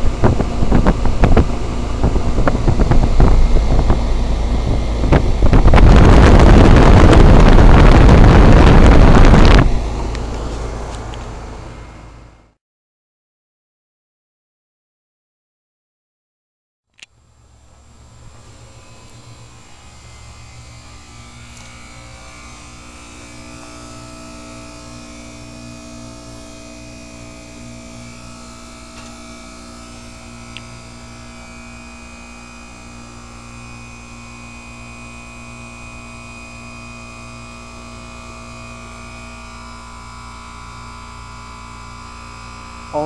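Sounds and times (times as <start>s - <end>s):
heat pump humming: 0.0s - 12.5s, 17.0s - 43.0s.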